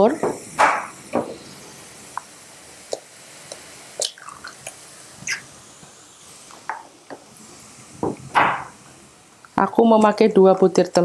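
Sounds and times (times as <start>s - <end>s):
garlic frying in oil: 0.0s - 11.0s.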